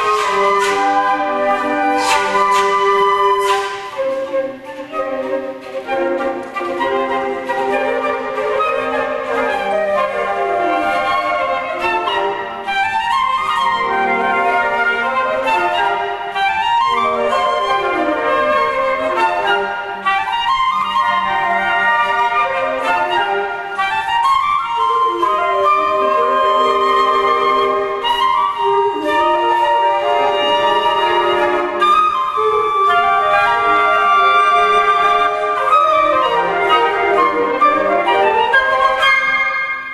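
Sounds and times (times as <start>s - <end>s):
flute choir playing: 0.0s - 39.9s.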